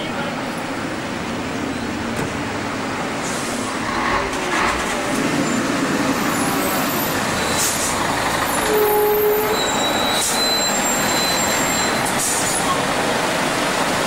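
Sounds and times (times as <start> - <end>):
road vehicle noise: 0.0 - 14.0.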